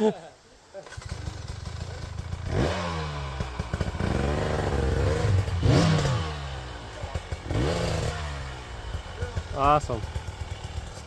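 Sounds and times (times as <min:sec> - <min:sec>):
dirt bike engine revving: 0:00.8 - 0:11.0.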